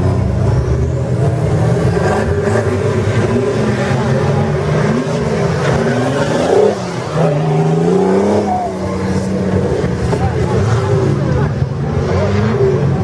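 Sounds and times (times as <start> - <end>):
engine revving hard: 0.0 - 13.0.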